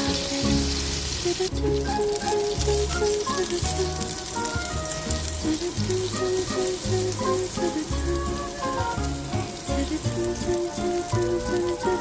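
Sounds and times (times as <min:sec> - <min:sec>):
background music with bass line: 0:00.0 - 0:12.0
food sizzling in a pan: 0:00.0 - 0:12.0.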